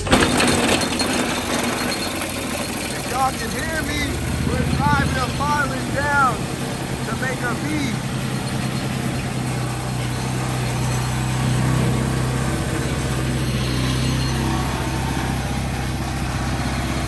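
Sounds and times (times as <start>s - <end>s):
excavator pile driver humming: 0.0s - 17.0s.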